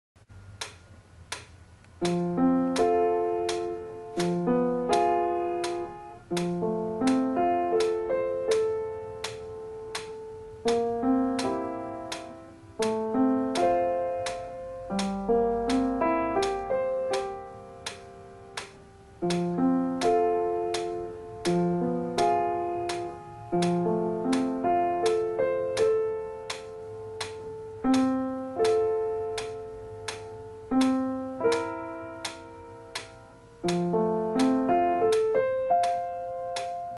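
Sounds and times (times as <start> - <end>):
slow piano playing: 1.9 - 36.9.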